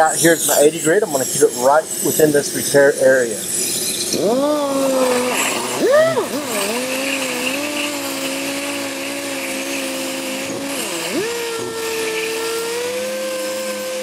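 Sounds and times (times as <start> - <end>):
sander whining: 0.0 - 14.0.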